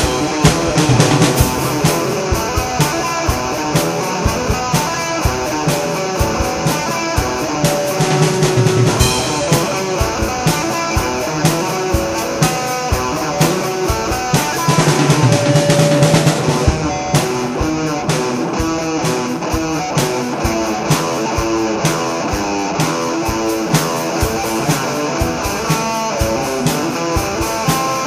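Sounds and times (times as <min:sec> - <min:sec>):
instrumental rock music: 0:00.0 - 0:28.0
sharp drum hits: 0:00.0 - 0:28.0.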